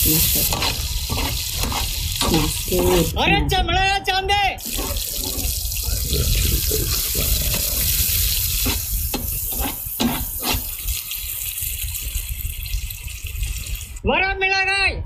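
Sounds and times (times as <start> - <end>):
lentils sizzling in oil: 0.0 - 3.2, 4.6 - 14.0.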